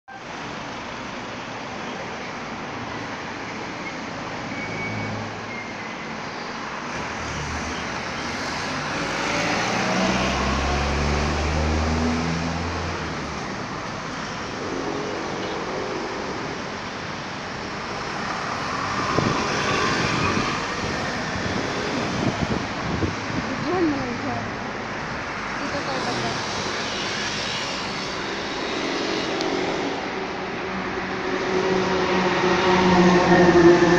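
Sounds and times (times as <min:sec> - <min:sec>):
traffic rush: 0:00.1 - 0:33.9.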